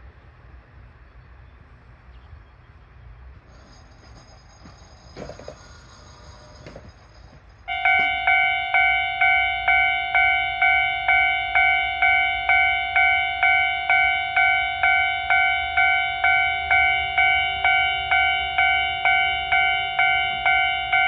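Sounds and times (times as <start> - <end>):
level crossing warning bell: 3.5 - 21.0.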